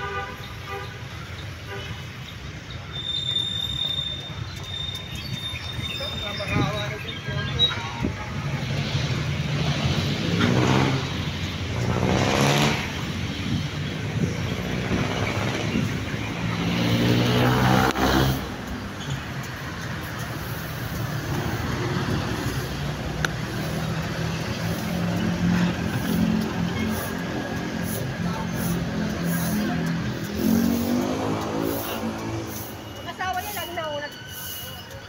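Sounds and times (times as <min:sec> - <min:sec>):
steady traffic noise: 0:00.0 - 0:35.0
vehicles passing: 0:00.0 - 0:35.0.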